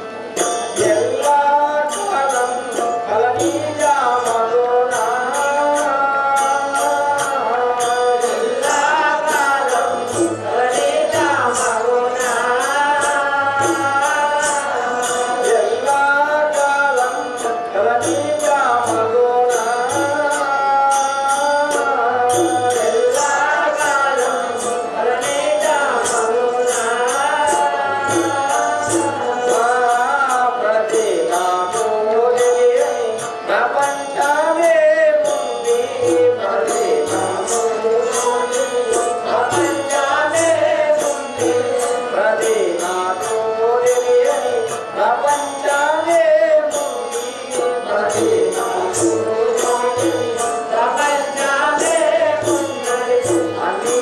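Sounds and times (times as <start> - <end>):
hand drums: 0.0 - 54.0.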